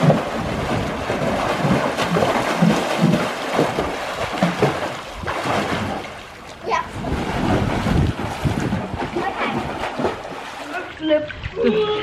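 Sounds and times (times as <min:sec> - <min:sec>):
children swimming splashing: 0:00.0 - 0:12.0.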